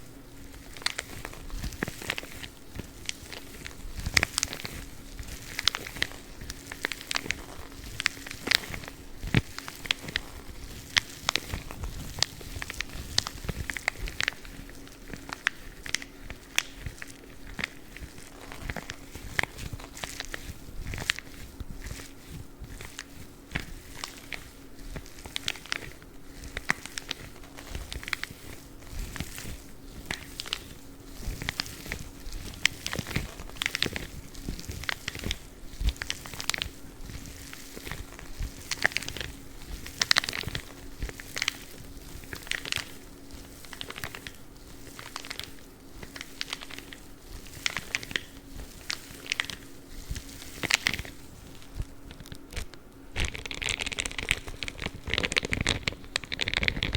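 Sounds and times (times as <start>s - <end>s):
faint steady hum: 0.0s - 56.9s
gloves rubbing and scratching: 0.0s - 56.9s.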